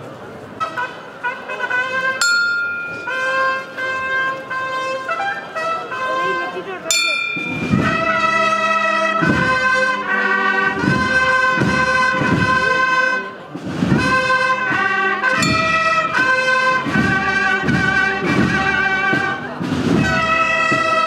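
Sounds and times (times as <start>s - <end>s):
brass band playing a march: 0.6s - 21.0s.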